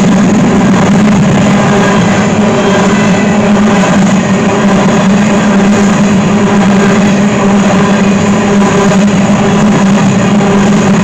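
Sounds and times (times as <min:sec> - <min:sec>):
constant low hum: 0:00.0 - 0:11.0
train wheels rumbling on rail: 0:00.0 - 0:11.0.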